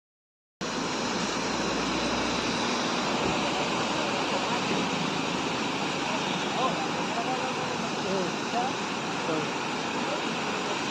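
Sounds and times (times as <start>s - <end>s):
waterfall rushing: 0.6s - 10.9s.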